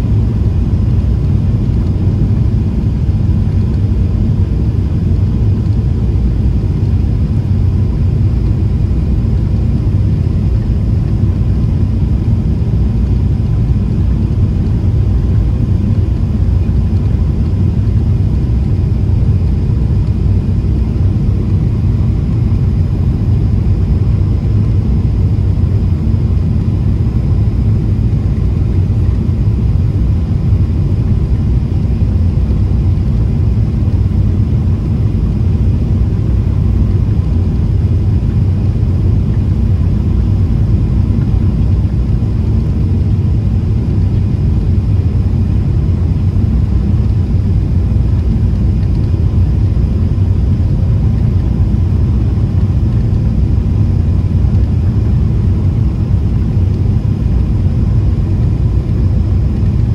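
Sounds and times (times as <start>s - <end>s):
airflow over fuselage: 0.0s - 59.9s
faint steady hum: 0.0s - 59.9s
jet engines droning: 0.0s - 59.9s.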